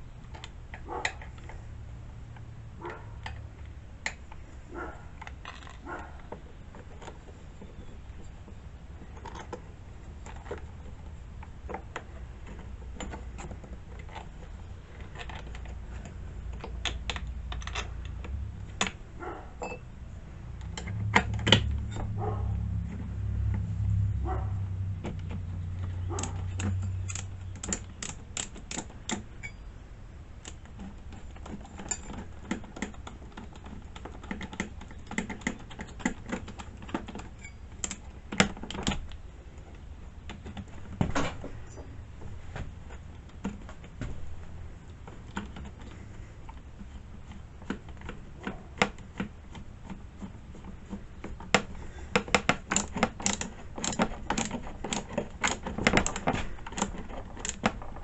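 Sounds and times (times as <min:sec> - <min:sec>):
tools and small parts clattering: 0:02.8 - 0:19.9, 0:25.0 - 0:29.7, 0:30.4 - 0:58.0.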